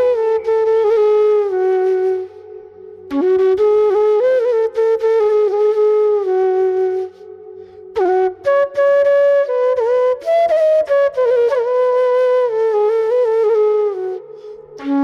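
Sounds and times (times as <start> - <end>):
bamboo flute melody: 0.0 - 15.0.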